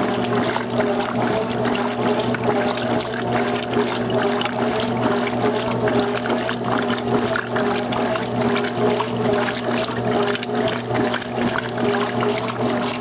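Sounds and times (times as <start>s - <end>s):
water sloshing in washing machine: 0.0s - 13.0s.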